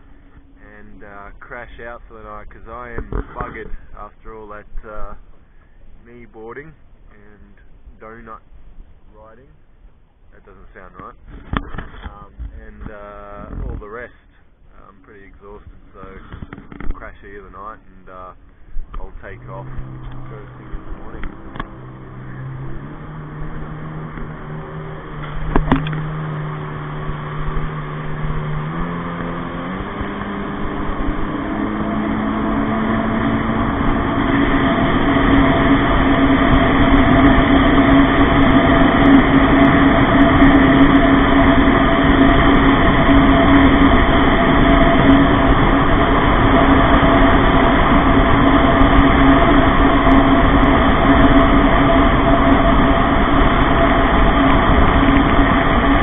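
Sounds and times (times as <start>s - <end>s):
jet ski engine accelerating: 0.0s - 56.0s
wind and water rushing: 0.0s - 56.0s.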